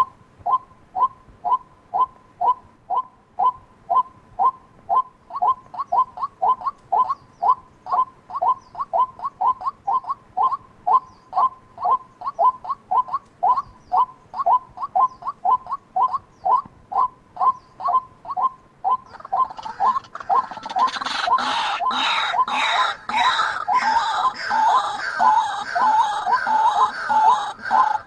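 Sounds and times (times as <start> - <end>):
bird calling with hoarse notes: 0.0 - 28.0.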